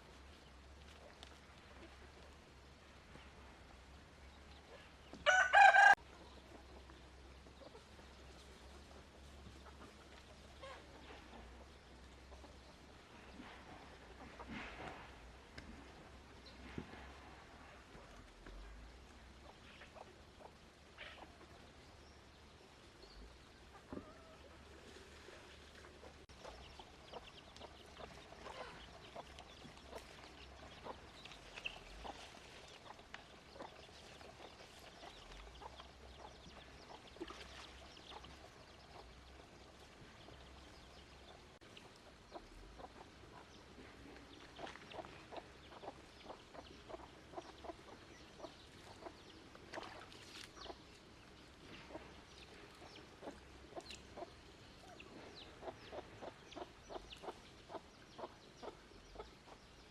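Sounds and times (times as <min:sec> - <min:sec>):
chickens clucking: 0:04.6 - 0:15.9, 0:19.4 - 0:21.7, 0:23.5 - 0:59.8.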